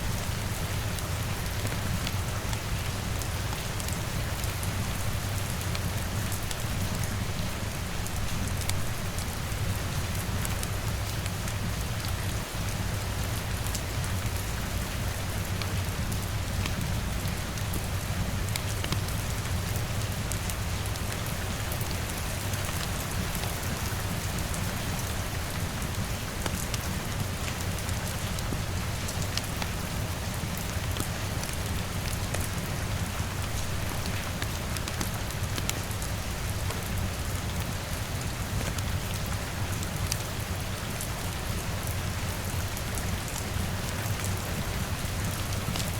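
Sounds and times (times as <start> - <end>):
rain on a window: 0.0 - 45.9.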